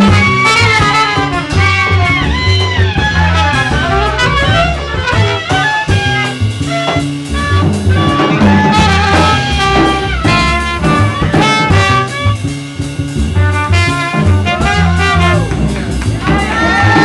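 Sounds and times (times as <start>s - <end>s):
conga drums: 0.0s - 17.0s
saxophone melody: 0.0s - 17.0s.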